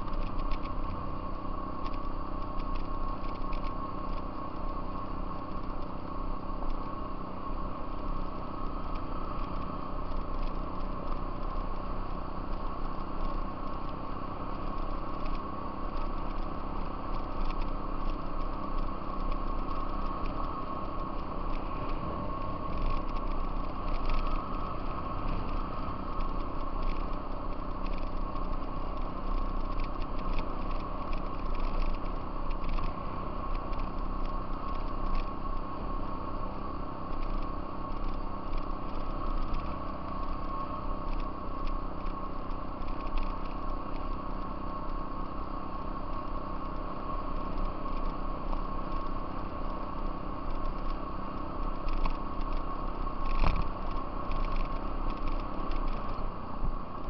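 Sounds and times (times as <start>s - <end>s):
gravel crackles: 0.0s - 57.0s
high whine: 0.0s - 57.0s
off-road vehicle engine running: 0.0s - 57.0s.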